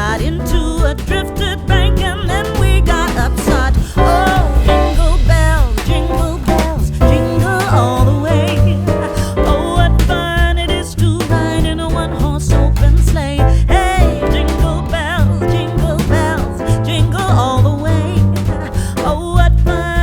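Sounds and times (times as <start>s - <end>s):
song with singing voice: 0.0s - 20.0s.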